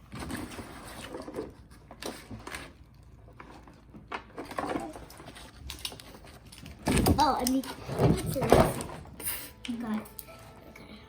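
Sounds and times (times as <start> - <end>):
plastic packaging clicks and rustling: 0.0 - 10.4.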